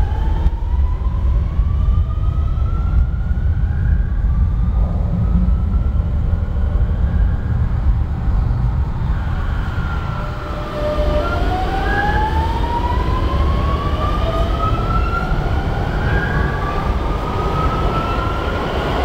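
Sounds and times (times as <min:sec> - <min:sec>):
low rumble: 0:00.0 - 0:17.7.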